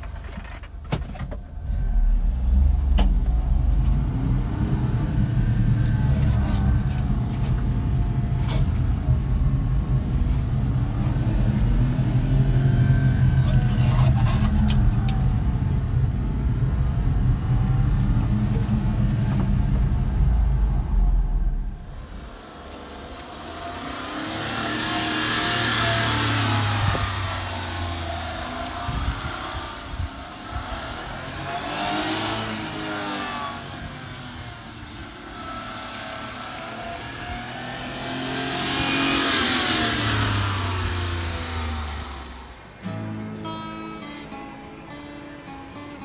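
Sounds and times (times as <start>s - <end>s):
small truck engine revving: 1.6s - 43.2s.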